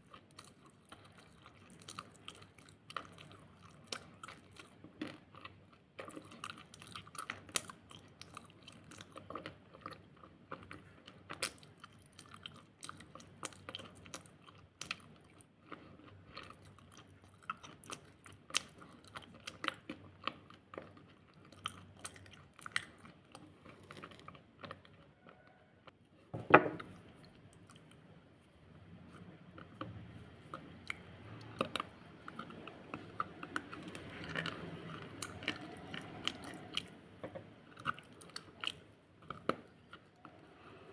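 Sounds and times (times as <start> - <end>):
crunchy food being chewed: 0.0 - 26.2, 26.8 - 40.9.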